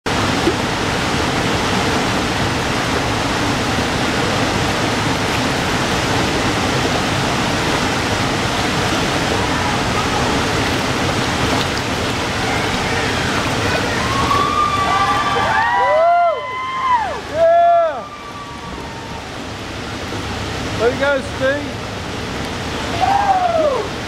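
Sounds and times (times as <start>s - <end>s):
whitewater roaring over falls: 0.1s - 24.0s.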